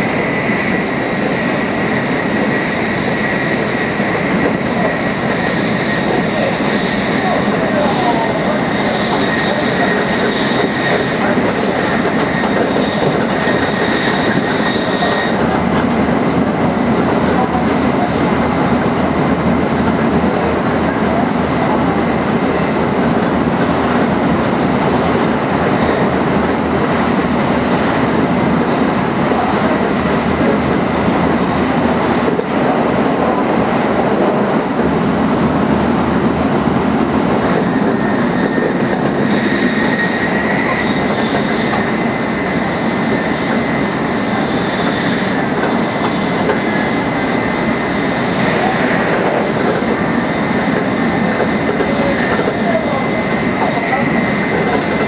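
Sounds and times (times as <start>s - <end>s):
high-speed train rushing: 0.0s - 55.0s.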